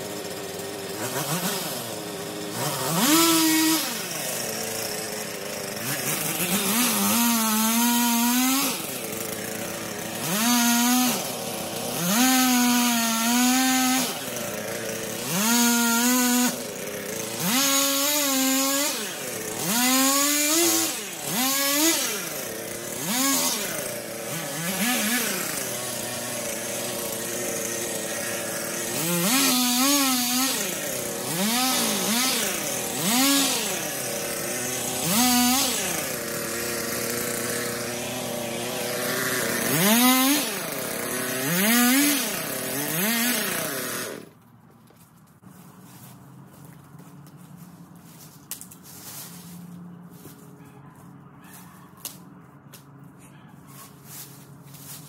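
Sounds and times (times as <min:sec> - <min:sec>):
chainsaw revving and idling: 0:00.0 - 0:44.4.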